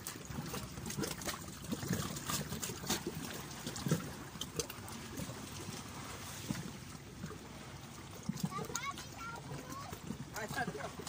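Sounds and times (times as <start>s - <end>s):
seawater lapping and sloshing: 0.0s - 11.0s
small water splashes: 0.0s - 11.0s.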